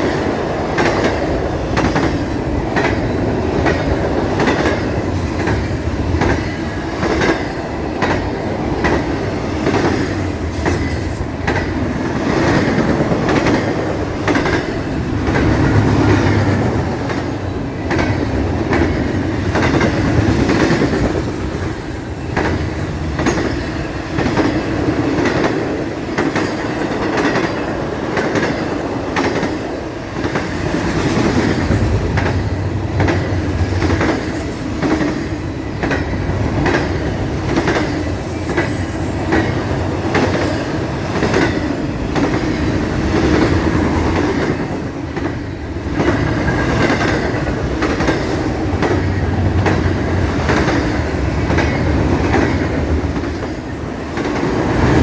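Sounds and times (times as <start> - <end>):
continuous train rumble: 0.0 - 55.0
train wheels clicking over joints: 0.0 - 55.0.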